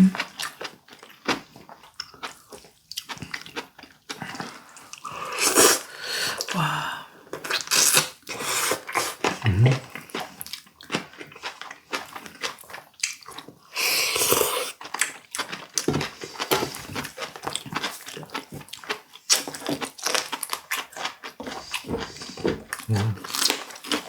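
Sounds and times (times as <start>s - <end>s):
wet chewing and lip-smacking: 0.0s - 5.8s, 7.4s - 24.0s.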